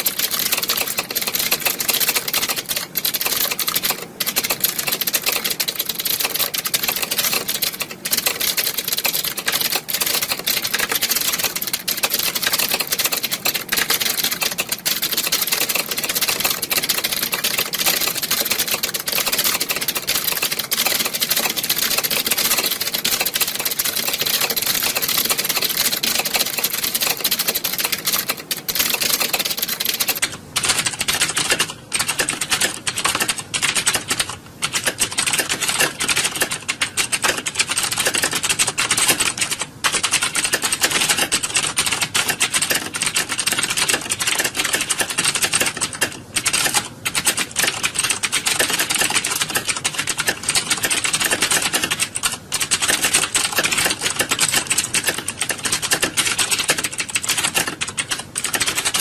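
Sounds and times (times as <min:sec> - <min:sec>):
keyboards typing clatter: 0:00.0 - 0:59.0.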